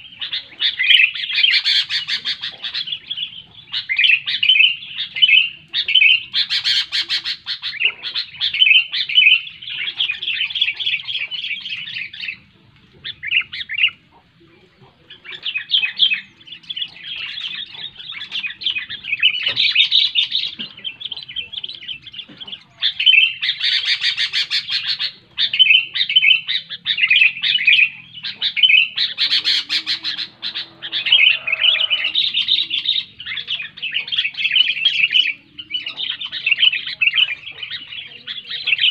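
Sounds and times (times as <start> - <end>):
bird singing chattering phrases: 0.0 - 38.9.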